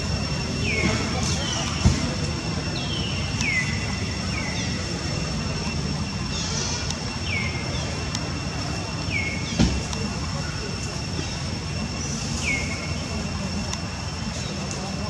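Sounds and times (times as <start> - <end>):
faint high drone: 0.0 - 15.0.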